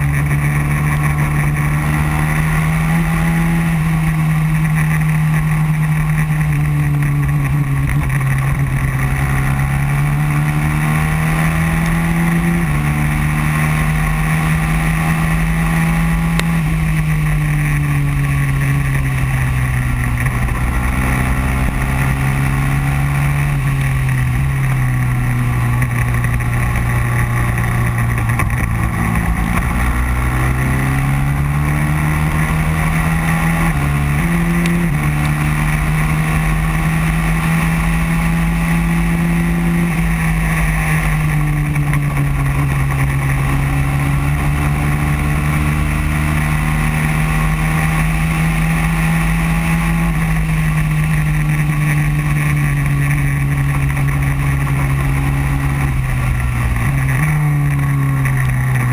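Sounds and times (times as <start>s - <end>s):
racing kart engine at speed: 0.0s - 58.9s.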